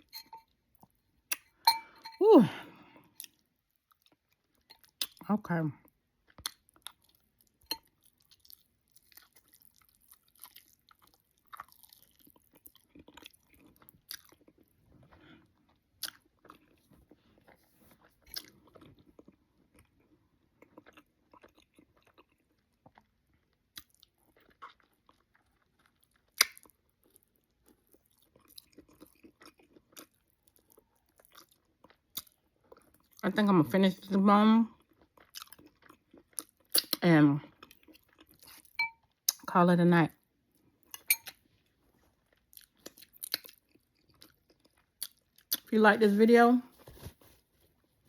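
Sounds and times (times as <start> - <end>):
quiet chewing: 2.8 - 33.2, 34.7 - 39.5, 40.6 - 45.7.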